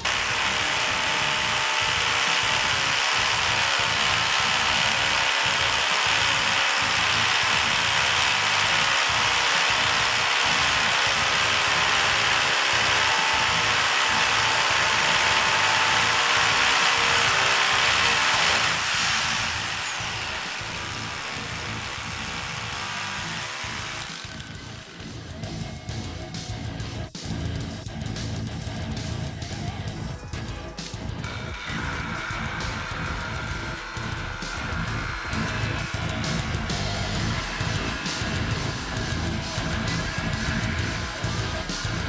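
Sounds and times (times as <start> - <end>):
rotary hammer drilling into concrete: 0.0 - 25.0, 31.2 - 42.0.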